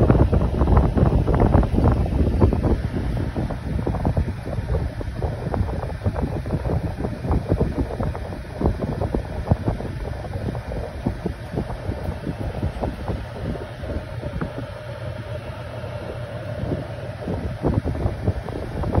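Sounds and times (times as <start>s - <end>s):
air blowing across microphone: 0.0s - 19.0s.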